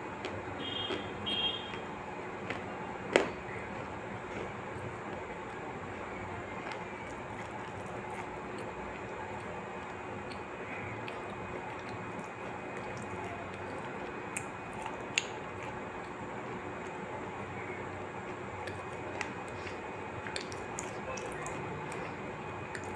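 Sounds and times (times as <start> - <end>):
faint hum: 0.0 - 22.9.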